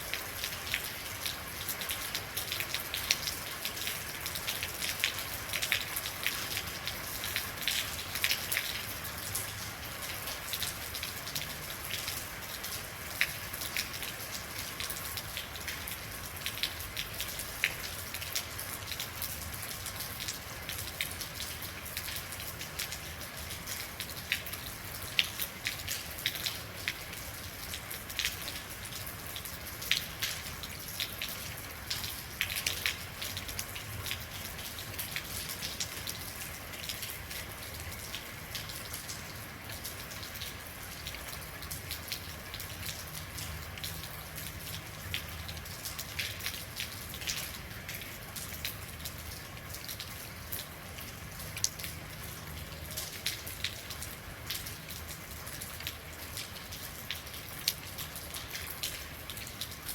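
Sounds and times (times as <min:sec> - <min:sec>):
rain falling steadily: 0:00.0 - 0:59.9.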